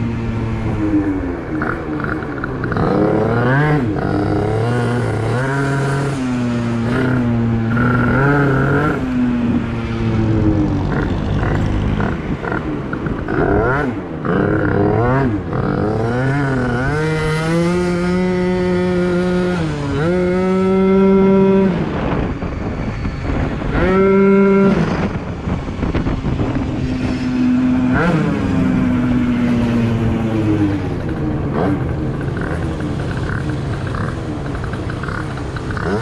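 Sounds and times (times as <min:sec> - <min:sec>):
scooter engine revving: 0:00.0 - 0:22.5, 0:23.2 - 0:36.0.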